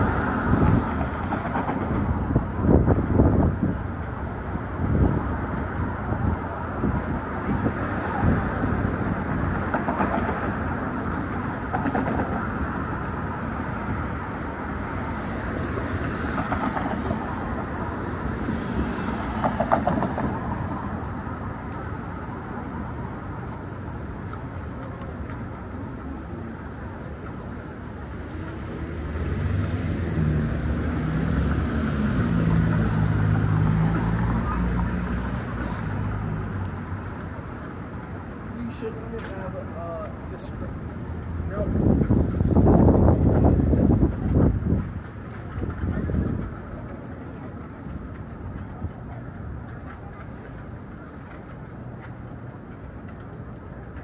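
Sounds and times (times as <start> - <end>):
city traffic noise: 0.0 - 54.0
large vehicle engine hum: 0.0 - 54.0.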